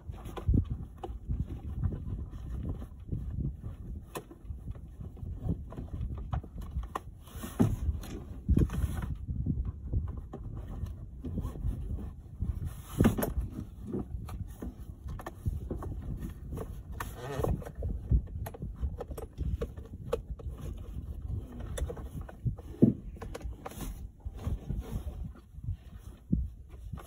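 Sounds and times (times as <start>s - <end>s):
plastic car seat knocking and scraping: 0.0s - 27.0s.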